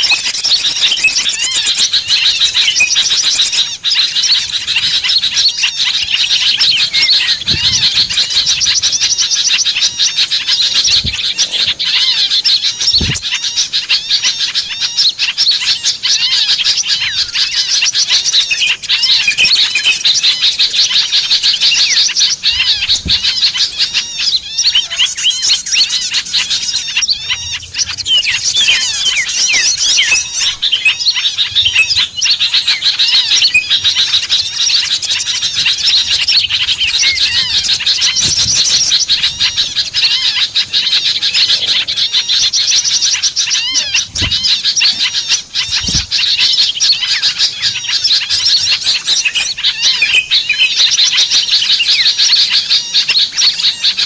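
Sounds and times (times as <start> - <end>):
small songbirds chattering: 0.0 - 54.0.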